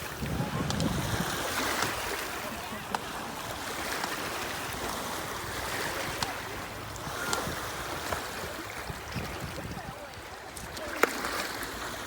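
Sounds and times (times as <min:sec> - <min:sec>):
small waves washing on beach: 0:00.0 - 0:12.0.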